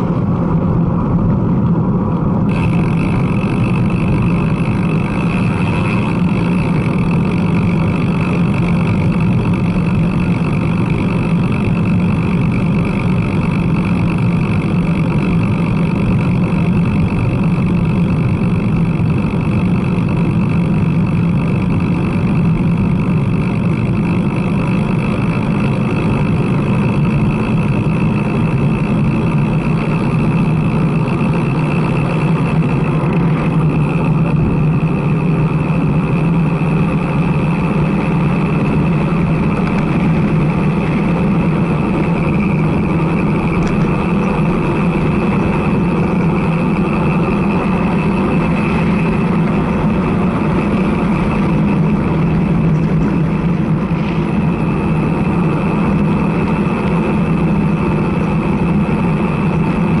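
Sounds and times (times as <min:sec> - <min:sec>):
bicycle tyres on asphalt: 0:00.0 - 1:00.0.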